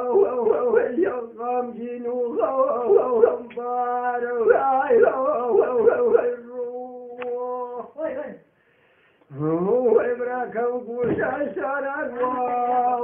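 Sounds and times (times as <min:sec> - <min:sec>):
man singing unaccompanied: 0:00.0 - 0:08.4, 0:09.3 - 0:13.0.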